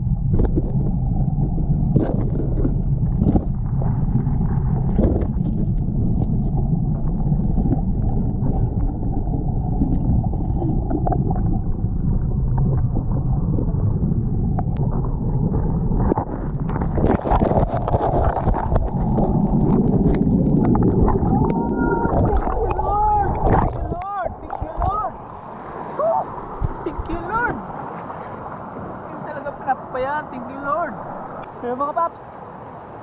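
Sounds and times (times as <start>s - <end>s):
river current rumbling: 0.0s - 33.0s.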